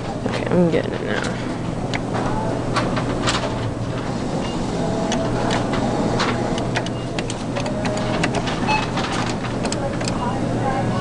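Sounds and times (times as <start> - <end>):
steady low hum: 0.0 - 11.0
claw machine motors whirring: 1.2 - 11.0.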